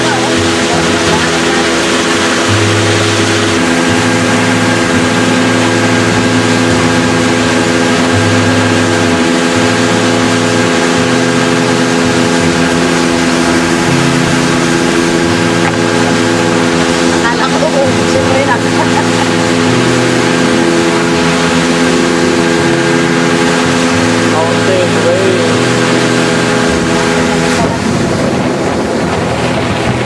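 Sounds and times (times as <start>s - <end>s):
outboard motor running: 0.0s - 30.0s
rushing water: 0.0s - 30.0s
wind: 0.0s - 30.0s.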